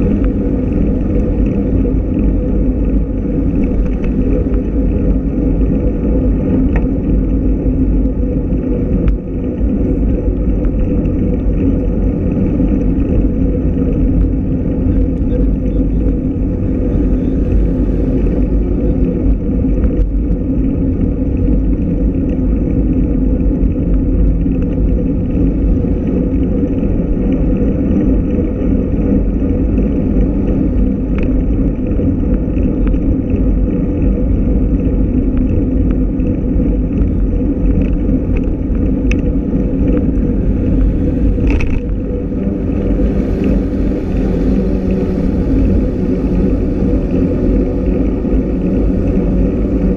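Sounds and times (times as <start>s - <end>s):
wind and road noise rumble: 0.0s - 49.9s.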